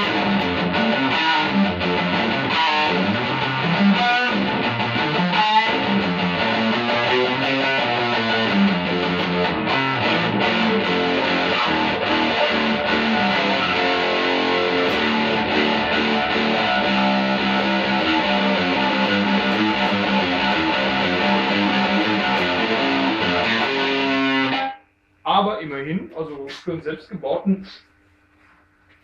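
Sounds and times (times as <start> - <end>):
distorted electric guitar lead: 0.0 - 26.0.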